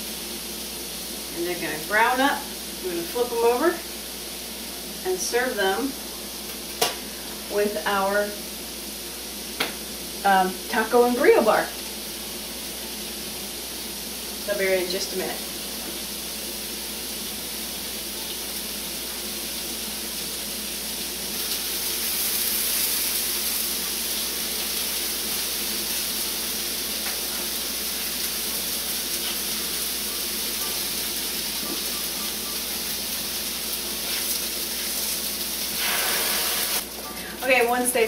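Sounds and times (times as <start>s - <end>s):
food sizzling on griddle: 0.0s - 38.0s.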